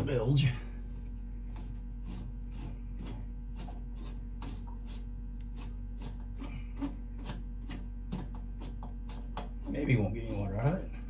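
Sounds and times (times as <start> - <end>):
bilge pump motor humming: 0.0 - 11.0.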